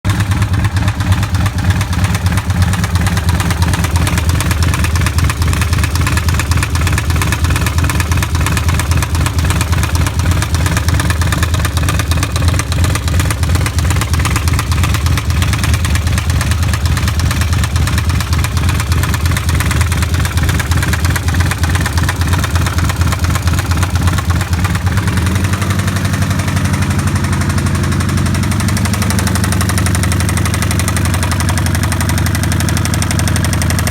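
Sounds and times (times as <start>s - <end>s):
motorcycle engine running: 0.0s - 33.9s
rhythmic engine knock: 0.0s - 33.9s.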